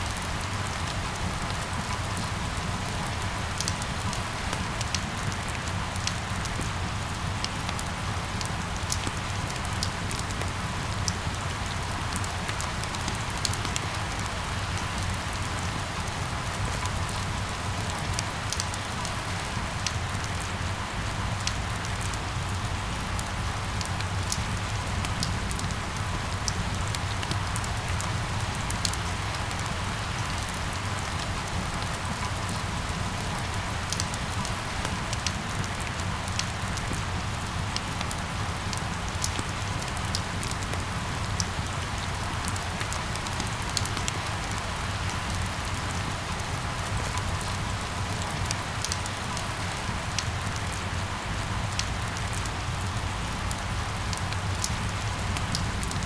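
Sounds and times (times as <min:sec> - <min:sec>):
sharp ticks of raindrops: 0:00.0 - 0:56.0
steady rain falling: 0:00.0 - 0:56.0.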